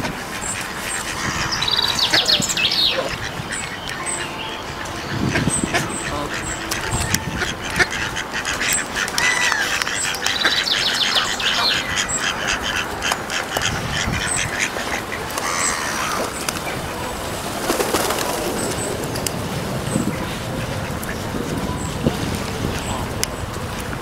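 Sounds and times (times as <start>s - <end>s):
birds calling: 0.0s - 24.0s
ducks quacking: 0.0s - 24.0s
steady background rush: 0.0s - 24.0s.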